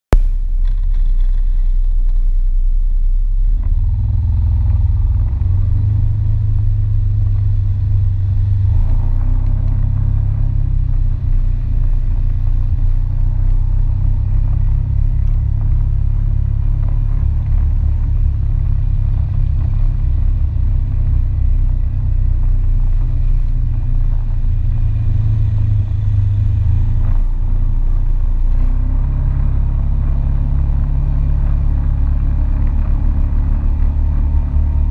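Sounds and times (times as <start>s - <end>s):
all-terrain vehicle engine: 0.1s - 34.9s.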